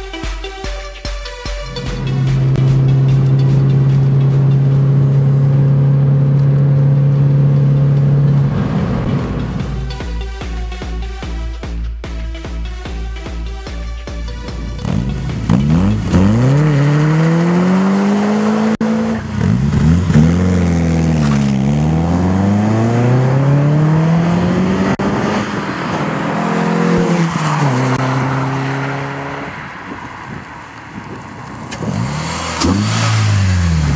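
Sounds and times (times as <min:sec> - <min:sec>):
car engine revving: 0:01.5 - 0:11.4, 0:13.2 - 0:33.9.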